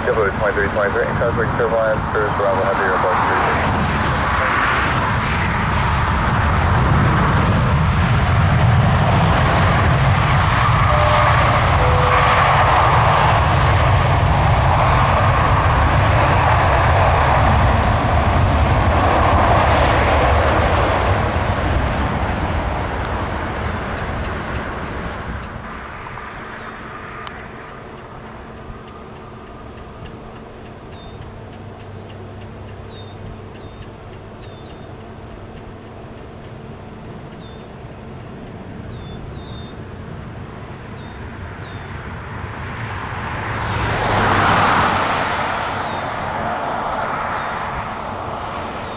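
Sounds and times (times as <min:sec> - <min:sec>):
jet airliner engines running: 0:00.0 - 0:48.9.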